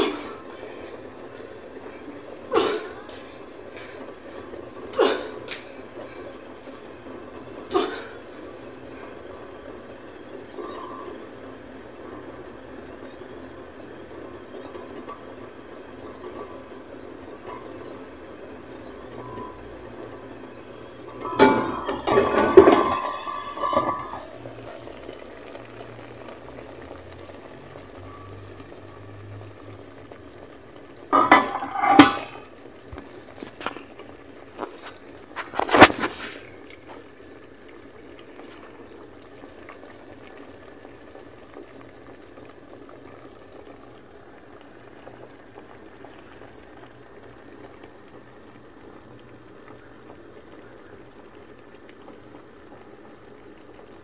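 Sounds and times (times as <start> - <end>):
water boiling: 0.0 - 54.0.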